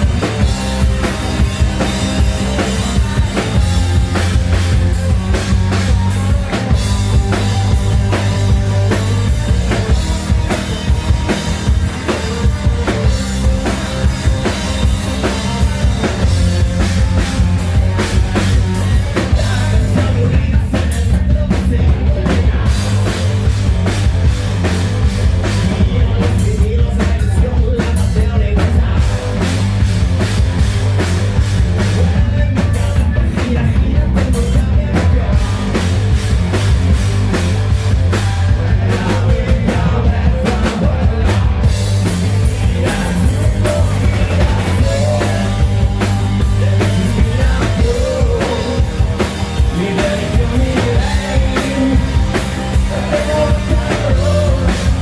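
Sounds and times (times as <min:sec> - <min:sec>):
drum kit: 0:00.0 - 0:55.0
hard rock band playing: 0:00.0 - 0:55.0.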